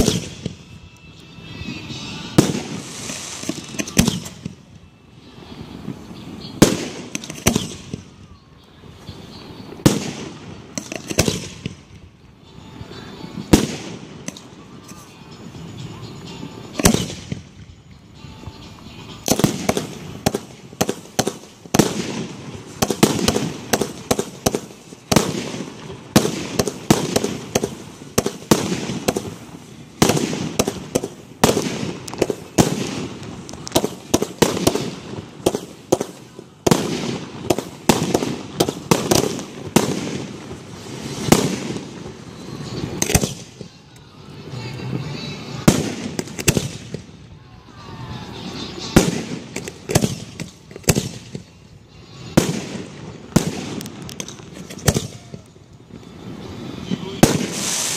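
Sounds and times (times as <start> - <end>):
fireworks bangs and crackling: 0.0 - 18.0, 19.0 - 57.9.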